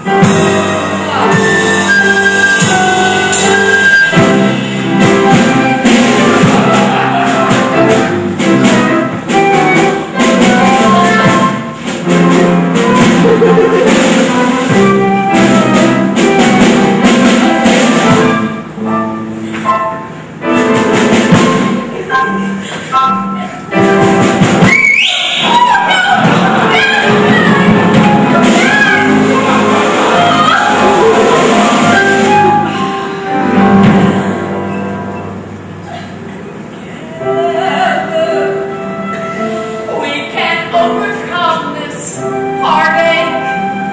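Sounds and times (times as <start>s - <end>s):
instrumental band music: 0.0s - 43.9s.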